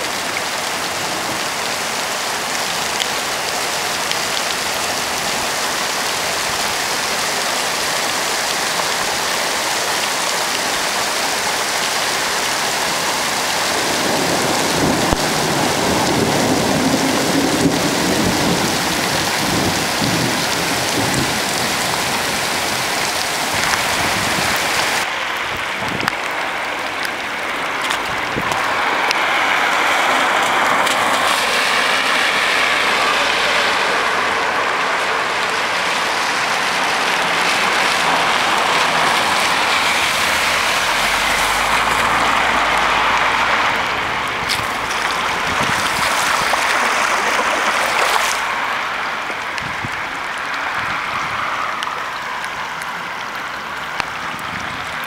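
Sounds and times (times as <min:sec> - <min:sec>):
torrential rain pouring: 0:00.0 - 0:55.0.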